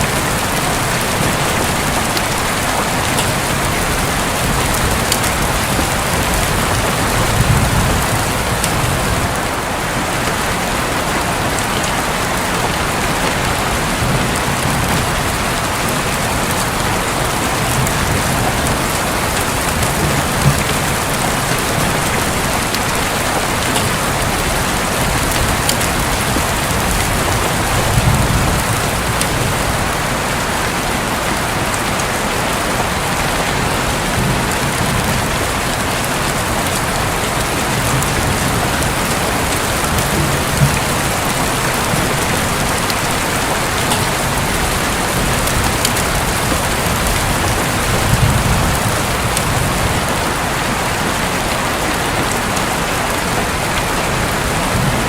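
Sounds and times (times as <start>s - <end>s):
steady rain on a roof: 0.0s - 55.0s.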